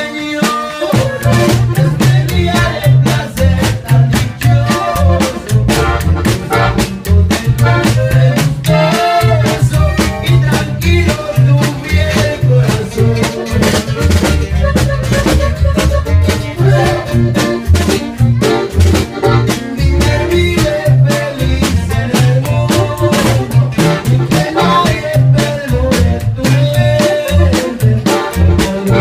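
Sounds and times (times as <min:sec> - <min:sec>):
accordion: 0:00.0 - 0:29.0
live band music: 0:00.0 - 0:29.0.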